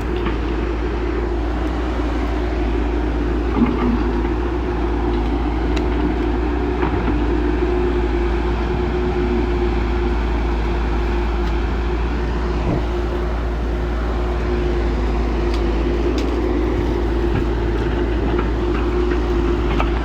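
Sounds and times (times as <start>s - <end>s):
diesel machinery engine humming: 0.0s - 20.0s.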